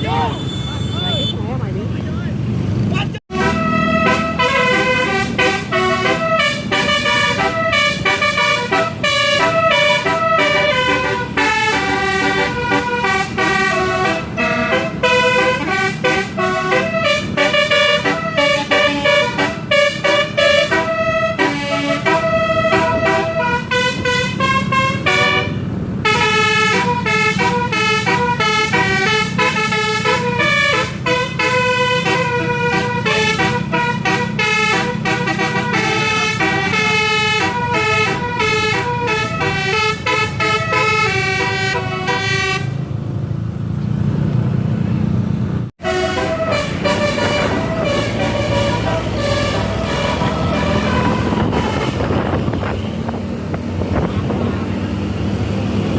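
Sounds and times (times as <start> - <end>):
bus engine humming: 0.0 - 55.9
musical bus horn playing a tune: 3.3 - 42.8, 45.8 - 53.2.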